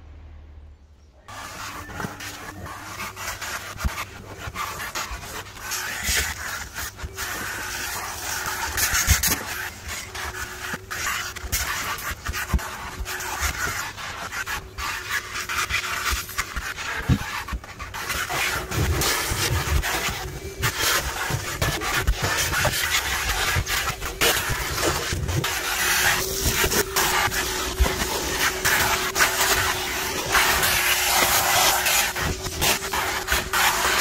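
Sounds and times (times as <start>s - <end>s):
wet vac sucking air: 1.3s - 34.0s.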